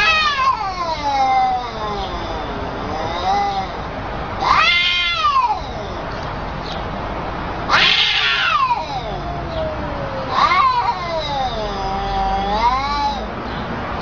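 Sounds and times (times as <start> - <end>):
cats yowling: 0.0 - 6.4, 7.6 - 13.4.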